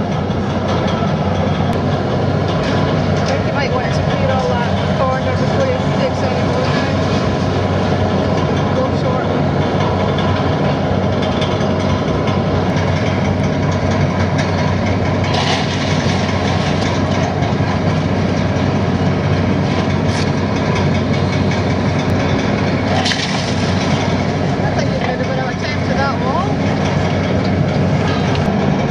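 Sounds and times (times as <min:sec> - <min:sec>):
diesel engine rumbling: 0:00.0 - 0:28.9.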